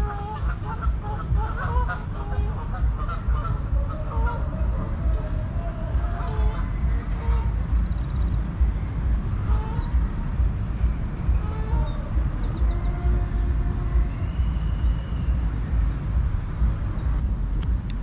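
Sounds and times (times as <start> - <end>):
songbirds chirping and trilling: 0.0 - 18.0
steady low rumble: 0.0 - 18.0.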